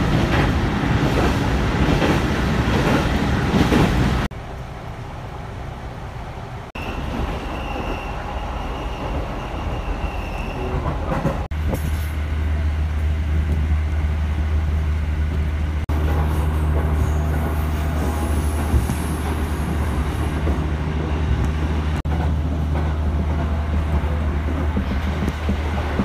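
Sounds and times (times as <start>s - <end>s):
train rumbling inside carriage: 0.0s - 26.0s.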